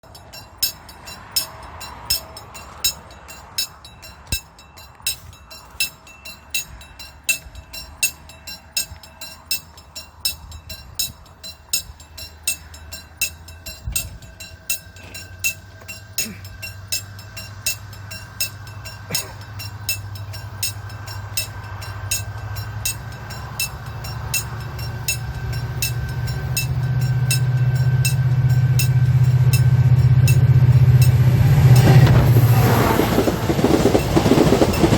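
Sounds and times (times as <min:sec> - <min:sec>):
approaching train rumble: 0:00.0 - 0:34.9
level crossing warning bell: 0:00.0 - 0:34.9.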